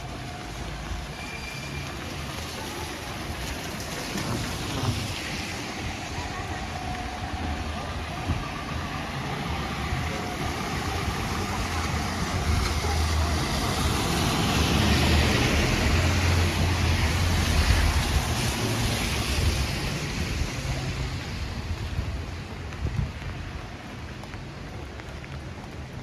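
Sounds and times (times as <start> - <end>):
hiss of wet traffic: 0.0 - 26.0
rain: 0.0 - 26.0
wind rumble on microphone: 2.4 - 26.0.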